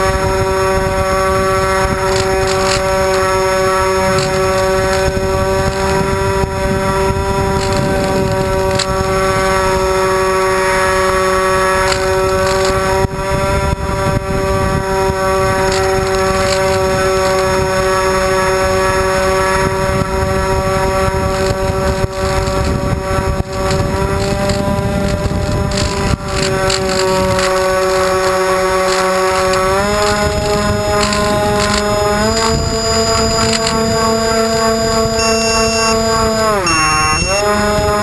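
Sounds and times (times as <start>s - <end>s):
propeller motors buzzing: 0.0s - 38.0s.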